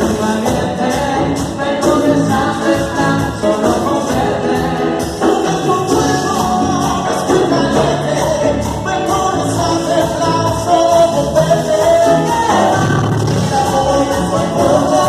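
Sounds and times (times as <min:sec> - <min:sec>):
percussion beat: 0:00.0 - 0:15.0
person singing: 0:00.0 - 0:15.0.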